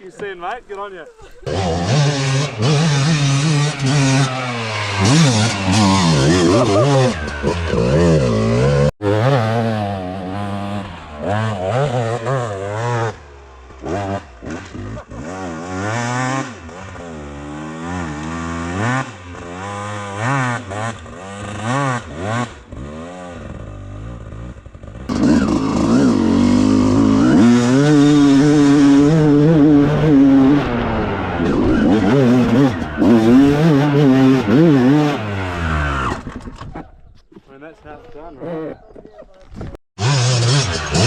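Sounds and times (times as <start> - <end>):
dirt bike engine revving: 1.4 - 36.7, 40.0 - 41.0.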